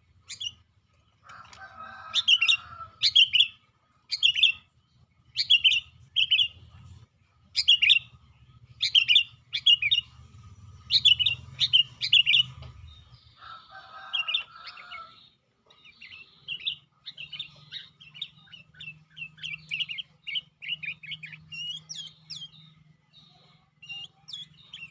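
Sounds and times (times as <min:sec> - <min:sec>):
bulbul singing: 0:00.0 - 0:24.9.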